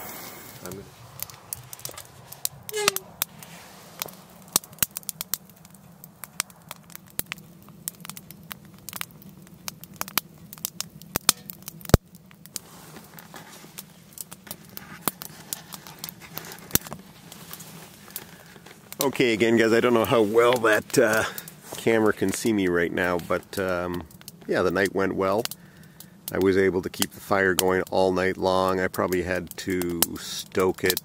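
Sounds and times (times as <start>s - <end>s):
firewood crackling in stove: 0.0s - 31.0s.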